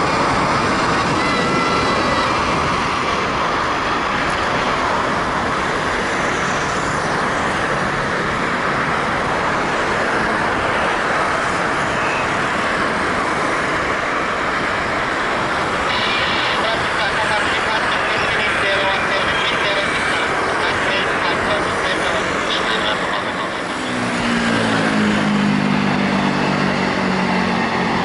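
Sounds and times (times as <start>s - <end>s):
jet engines roaring at takeoff: 0.0s - 28.0s.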